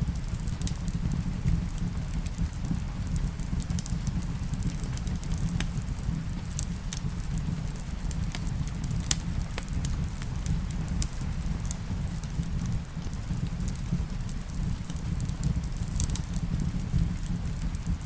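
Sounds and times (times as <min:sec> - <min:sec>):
rain falling: 0:00.0 - 0:18.0
wood fire crackling: 0:00.0 - 0:18.0.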